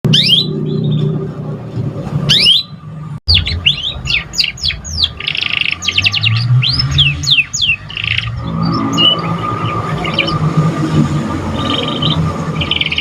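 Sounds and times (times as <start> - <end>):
canary singing: 0.1 - 1.4, 2.3 - 13.0
low hum: 0.1 - 13.0.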